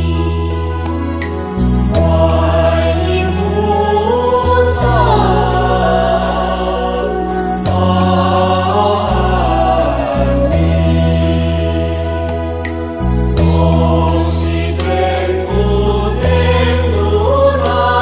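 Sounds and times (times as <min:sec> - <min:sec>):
held bass notes: 0:00.0 - 0:18.0
voices singing devotional song: 0:01.8 - 0:18.0.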